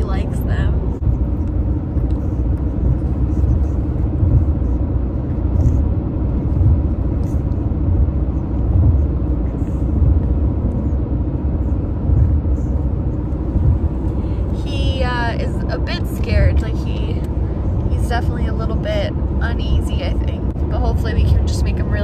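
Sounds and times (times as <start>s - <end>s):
car cabin road rumble: 0.0s - 22.0s.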